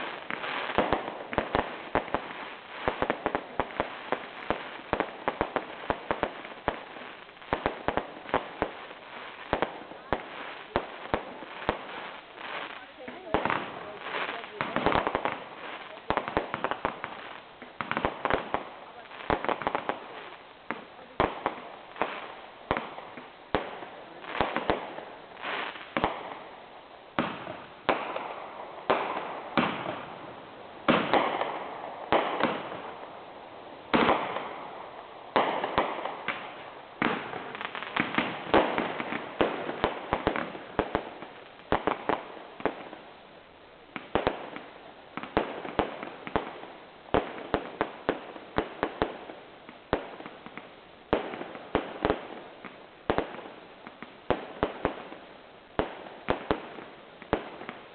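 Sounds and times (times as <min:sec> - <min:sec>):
firework crackle: 0:00.0 - 0:57.9.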